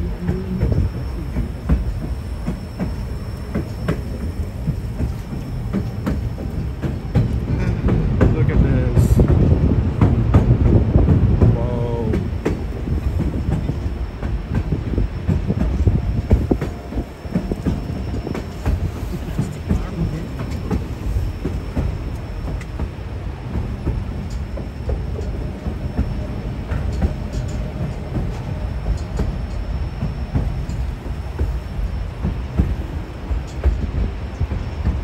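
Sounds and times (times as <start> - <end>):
railcar rumbling on track: 0.0 - 35.0.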